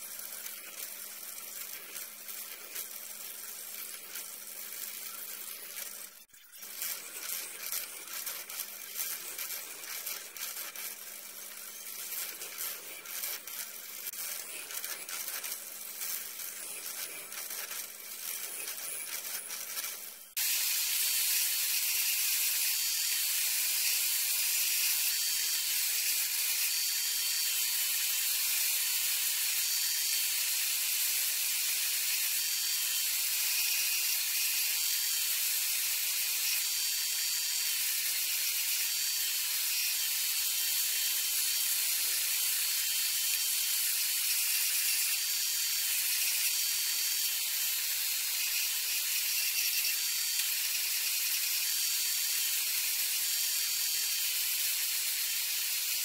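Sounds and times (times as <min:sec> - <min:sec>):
belt sander hissing: 0:00.0 - 0:56.0.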